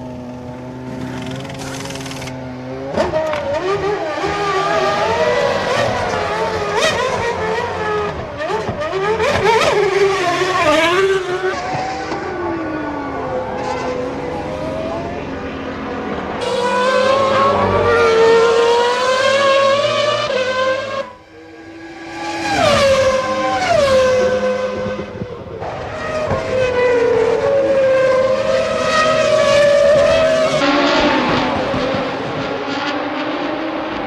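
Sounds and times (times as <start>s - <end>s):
racing car engines: 0.0s - 34.0s.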